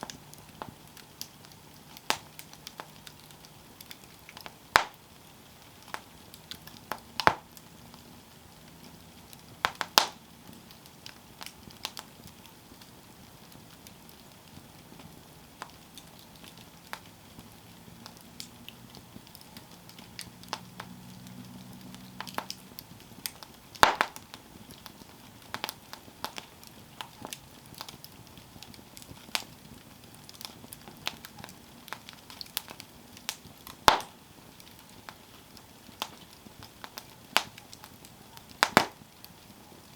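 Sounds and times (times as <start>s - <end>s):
campfire crackling: 0.0s - 39.9s
fire sharp pops: 0.0s - 39.9s.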